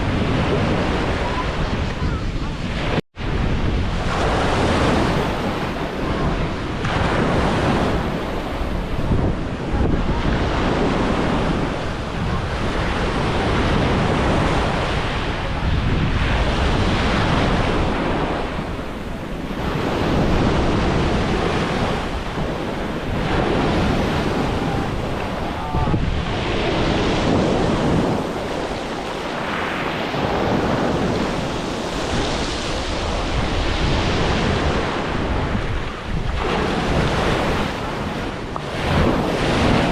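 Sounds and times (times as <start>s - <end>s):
sea waves washing onto beach: 0.0s - 39.9s
wind buffeting microphone: 0.0s - 39.9s.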